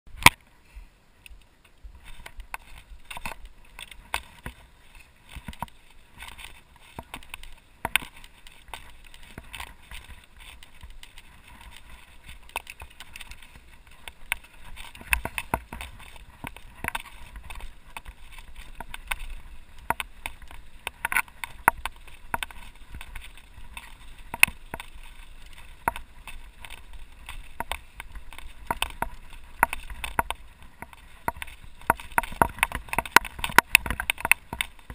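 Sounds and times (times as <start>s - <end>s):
bike rattling over bumps: 1.8s - 34.9s.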